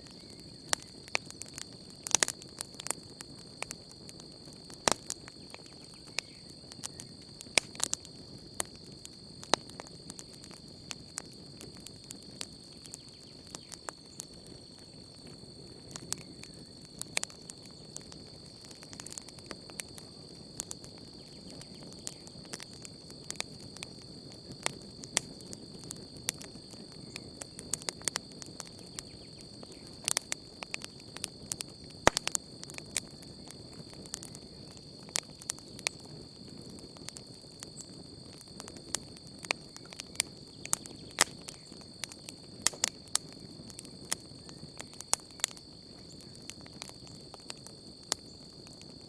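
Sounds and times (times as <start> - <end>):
campfire crackling: 0.0 - 49.0
high-pitched insect chorus: 0.0 - 49.0
low rush of burning wood: 0.0 - 49.0.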